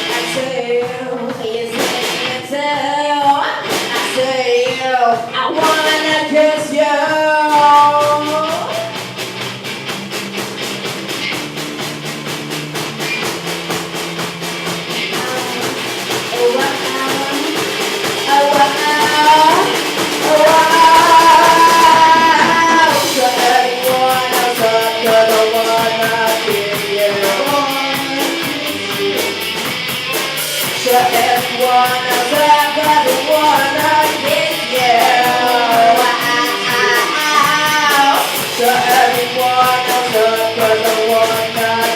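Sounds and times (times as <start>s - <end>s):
drum kit beat: 0.0s - 41.9s
guitars: 0.0s - 41.9s
melodic lead guitar line: 0.0s - 41.9s.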